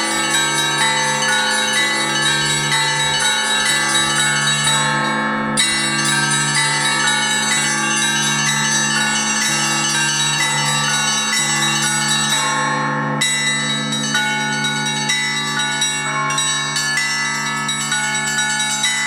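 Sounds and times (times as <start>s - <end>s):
large church bells tolling: 0.0s - 19.0s
small bells ringing: 0.0s - 19.0s.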